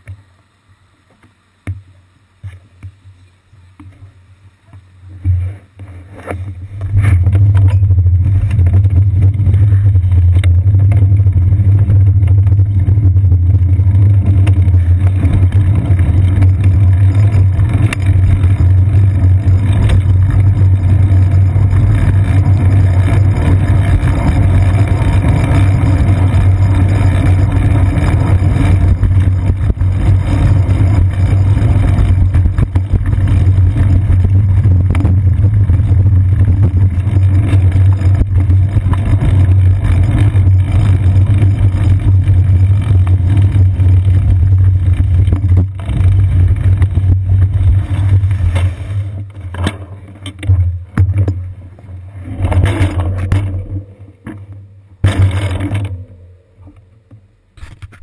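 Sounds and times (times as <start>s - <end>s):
wind and road vibration rumble: 5.0s - 58.0s.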